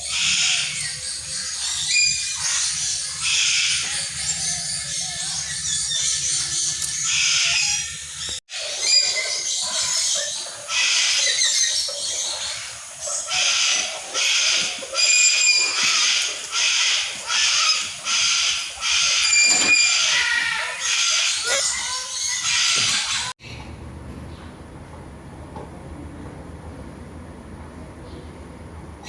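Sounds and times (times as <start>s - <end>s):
harsh animal calls: 0.0s - 23.6s.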